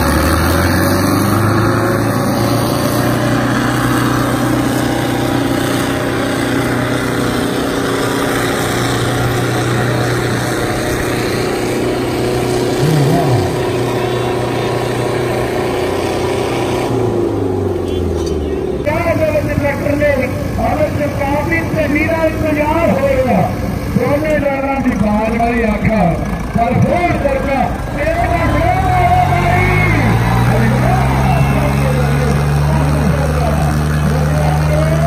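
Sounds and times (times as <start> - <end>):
tractor engines running hard: 0.0 - 35.0.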